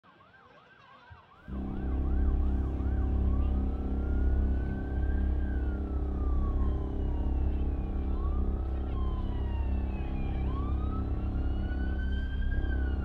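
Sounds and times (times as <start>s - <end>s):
police siren: 0.0s - 13.0s
loud low drone: 1.5s - 13.0s.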